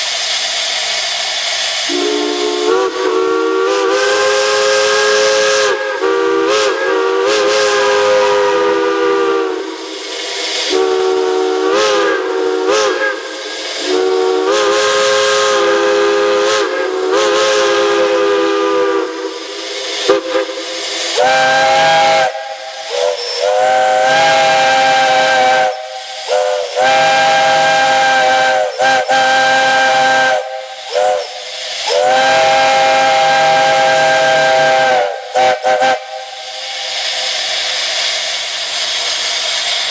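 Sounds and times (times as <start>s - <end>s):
steam hiss: 0.0s - 39.9s
chime steam whistle blasts: 1.8s - 39.9s.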